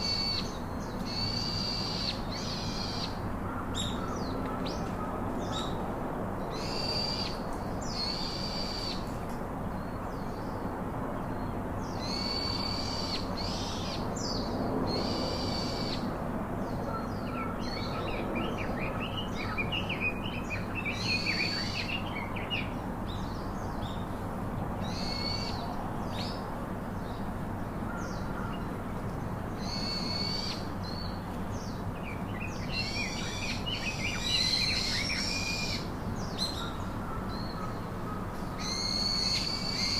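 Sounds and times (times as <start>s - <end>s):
small birds twittering: 0.0s - 39.9s
steady background hiss: 0.0s - 39.9s.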